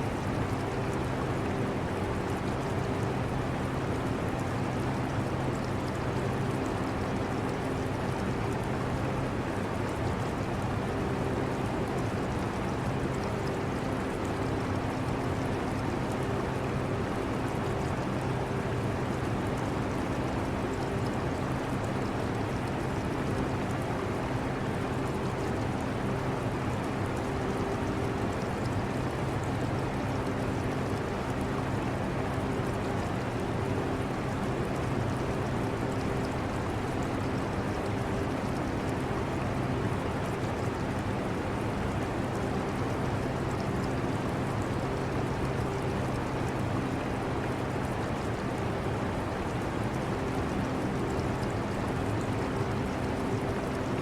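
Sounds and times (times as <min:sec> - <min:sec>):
aquarium water trickling: 0:00.0 - 0:54.0.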